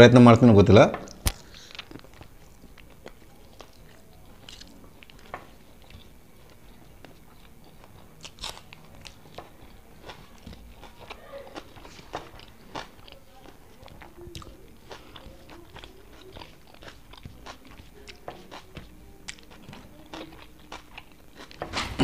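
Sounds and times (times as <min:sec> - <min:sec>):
man chewing food: 0:01.0 - 0:22.0.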